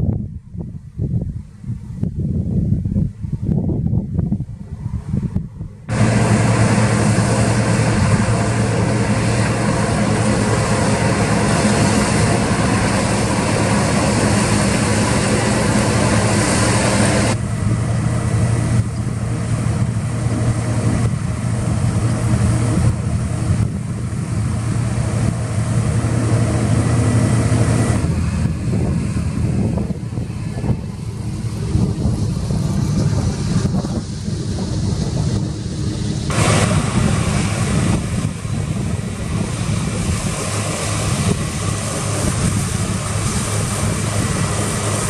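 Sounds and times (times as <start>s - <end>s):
combine harvester engine drone: 0.0s - 45.0s
tractor engine hum: 0.1s - 45.0s.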